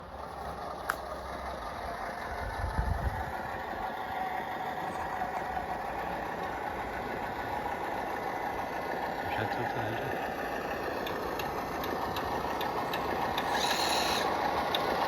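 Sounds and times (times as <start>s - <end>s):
model machinery idling hum: 0.0s - 15.0s.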